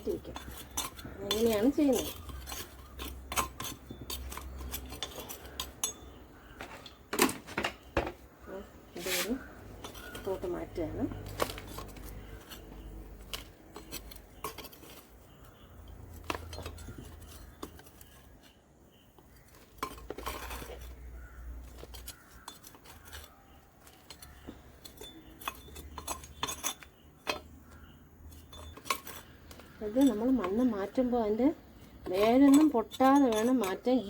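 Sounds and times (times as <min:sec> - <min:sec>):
soil being dug from flowerpot: 0:00.0 - 0:06.6, 0:08.9 - 0:34.0.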